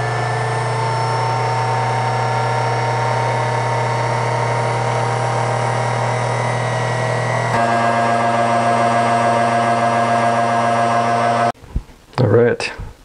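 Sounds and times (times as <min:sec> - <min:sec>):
drill press drilling brass: 0:00.0 - 0:11.5.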